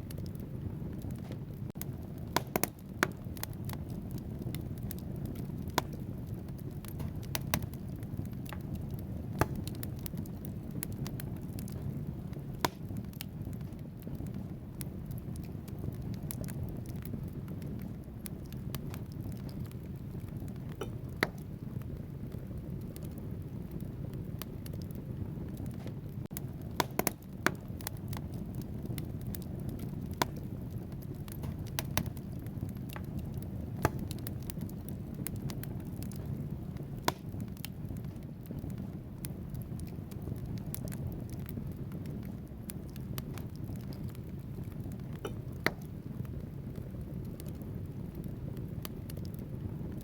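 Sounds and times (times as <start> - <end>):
fireplace fire crackling and popping: 0.0 - 50.0.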